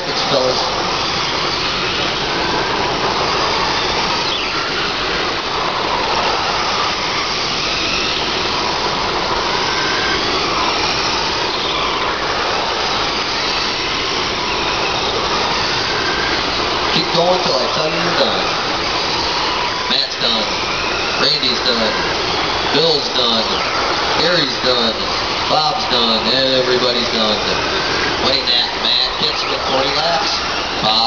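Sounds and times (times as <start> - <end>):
rc truck motors whining: 0.0 - 31.0.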